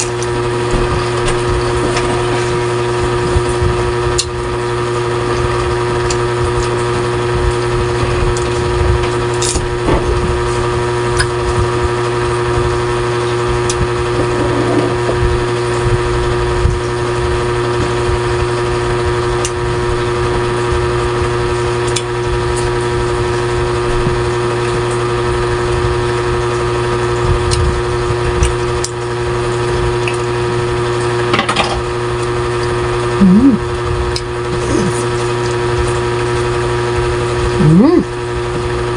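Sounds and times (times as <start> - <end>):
motor humming: 0.0 - 38.9.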